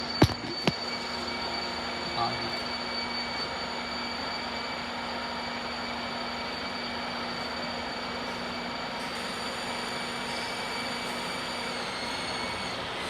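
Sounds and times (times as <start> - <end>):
bus whining tone: 0.0 - 13.0.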